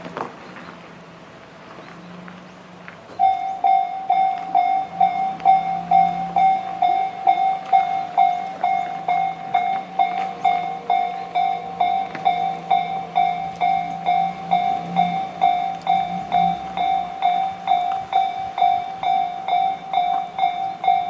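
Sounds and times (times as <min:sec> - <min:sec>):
low background noise: 0:00.0 - 0:21.0
level-crossing warning bell: 0:03.1 - 0:21.0.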